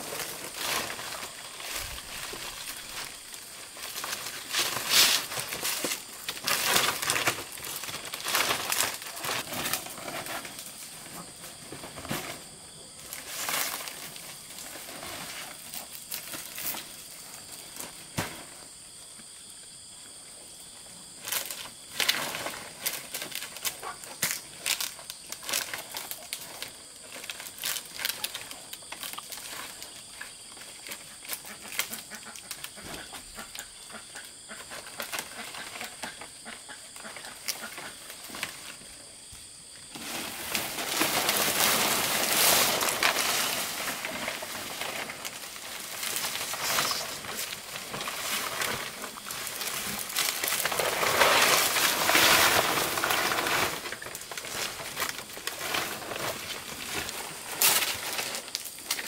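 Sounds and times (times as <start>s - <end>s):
palm leaves rustling: 0.0s - 19.0s, 21.1s - 59.0s.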